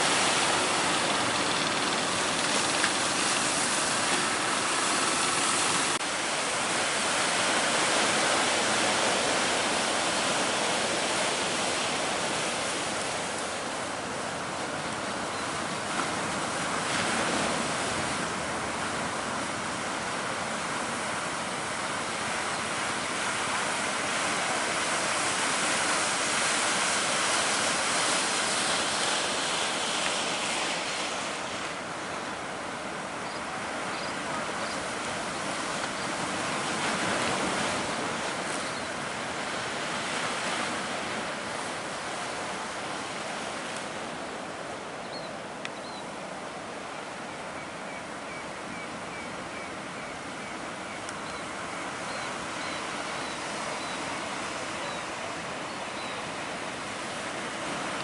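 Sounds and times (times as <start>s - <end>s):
ocean waves breaking: 0.0s - 58.0s
wind: 0.0s - 58.0s.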